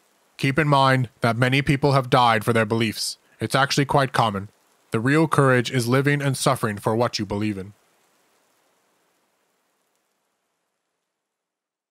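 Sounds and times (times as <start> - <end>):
faint recording hiss: 0.0 - 11.9.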